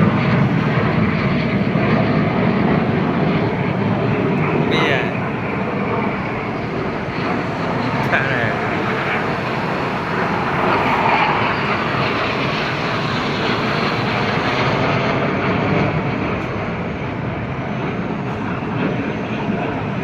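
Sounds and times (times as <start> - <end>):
jet engines flying past: 0.0 - 20.0.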